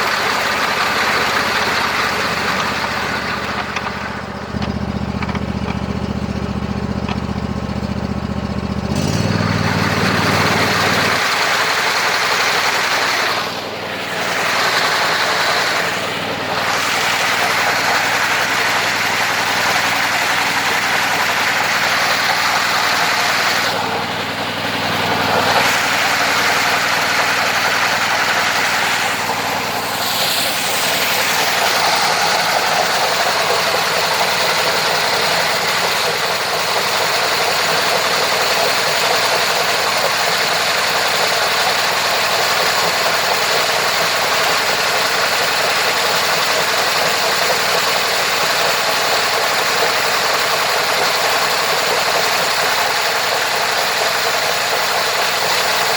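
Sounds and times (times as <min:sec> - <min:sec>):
engine-driven sawmill running: 0:00.0 - 0:55.9.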